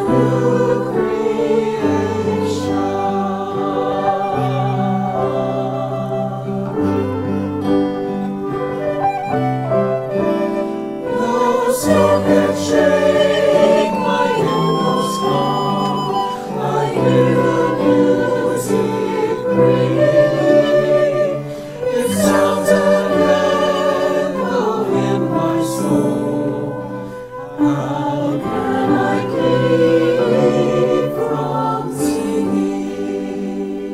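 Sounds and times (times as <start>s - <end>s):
church song with singing voices: 0.0s - 33.9s.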